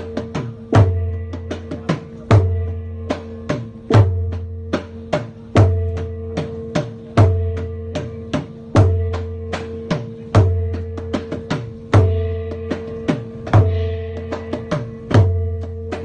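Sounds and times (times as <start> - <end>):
steady ringing tone: 0.0 - 16.0.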